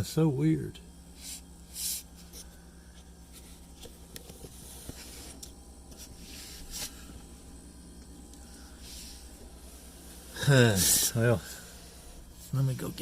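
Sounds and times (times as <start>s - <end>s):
refrigerator compressor hum: 0.0s - 13.0s.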